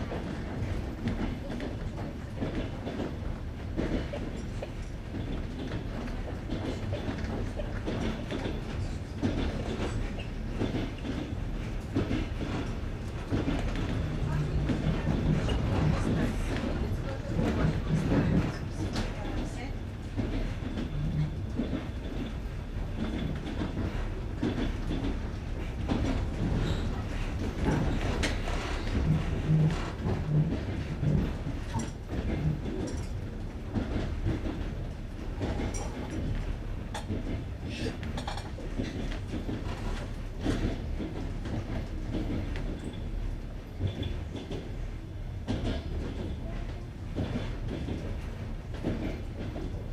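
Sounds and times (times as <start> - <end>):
train wheels clicking over rail joints: 0.0 - 49.9.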